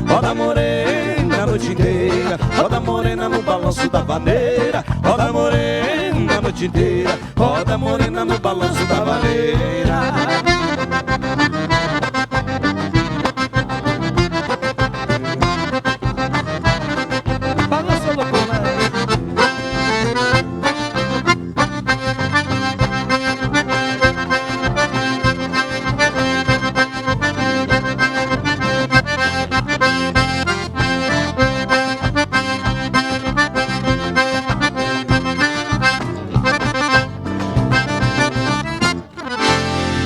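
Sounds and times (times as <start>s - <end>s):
accordion-led band playing: 0.0s - 40.0s.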